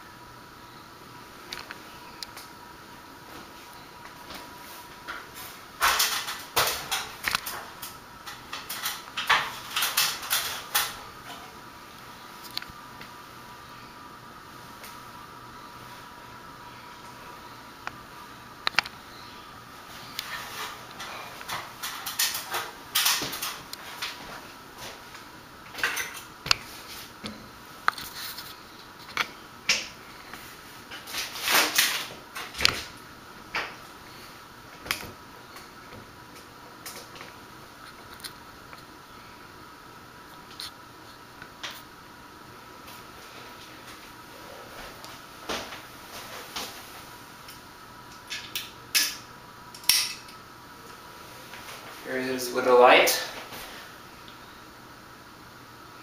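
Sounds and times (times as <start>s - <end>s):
ceiling fan humming: 0.0s - 56.0s.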